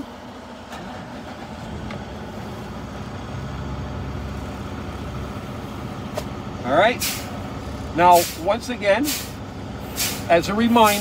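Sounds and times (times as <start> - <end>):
diesel truck engine starting: 0.0 - 11.0.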